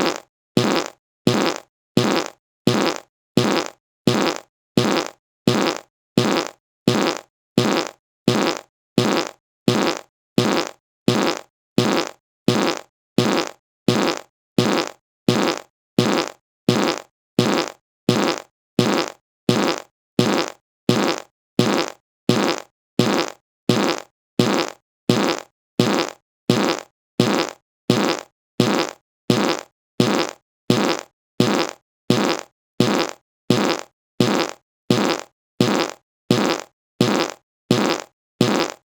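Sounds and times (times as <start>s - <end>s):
short fart: 0.0s - 38.8s.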